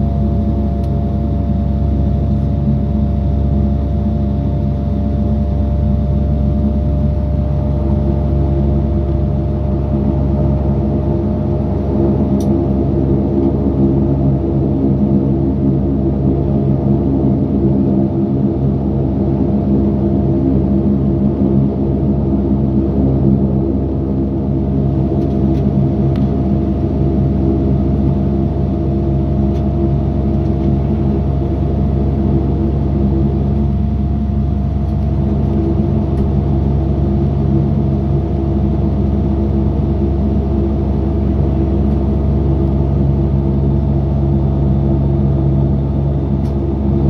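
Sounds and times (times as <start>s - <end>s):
turboprop engines humming: 0.0s - 47.0s.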